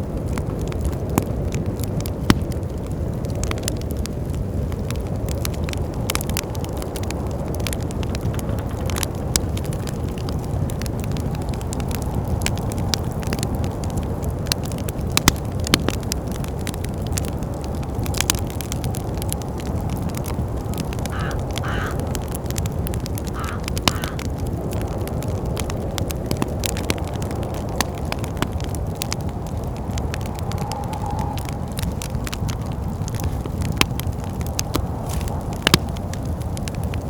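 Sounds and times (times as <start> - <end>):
low wind rumble: 0.0 - 37.0
wood fire crackling and popping: 0.0 - 37.0.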